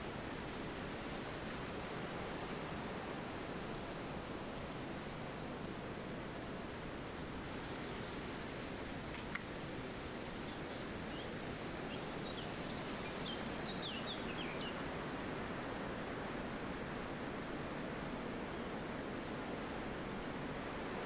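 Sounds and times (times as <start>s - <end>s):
wind through forest: 0.0s - 21.0s.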